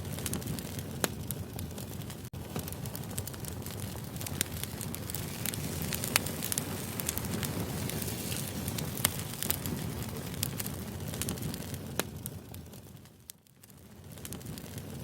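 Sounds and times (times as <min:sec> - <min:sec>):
fire pops and crackles: 0:00.0 - 0:15.0
low rumble of flames: 0:00.0 - 0:15.0.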